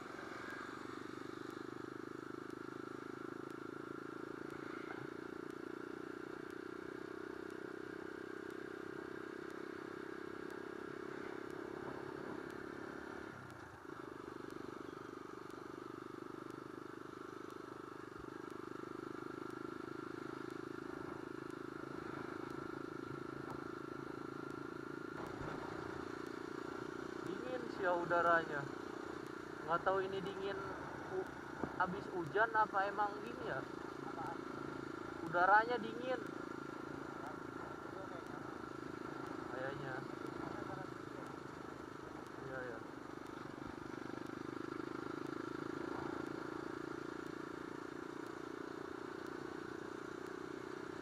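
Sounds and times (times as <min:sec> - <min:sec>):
motorcycle engine running: 0:00.0 - 0:51.0
road and wind noise: 0:00.0 - 0:51.0.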